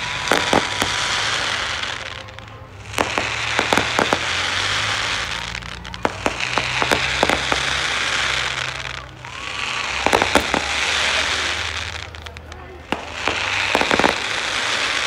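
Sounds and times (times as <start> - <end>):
firework bangs: 0.0 - 15.0
firework crackling hiss: 0.0 - 15.0.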